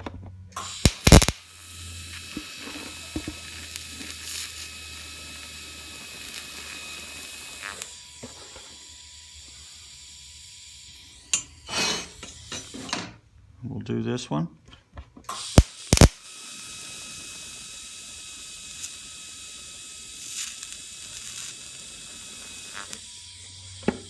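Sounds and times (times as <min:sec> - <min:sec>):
welding arc crackle: 0:00.6 - 0:11.2, 0:15.3 - 0:24.0
welding torch hiss: 0:00.6 - 0:12.9, 0:15.3 - 0:24.0.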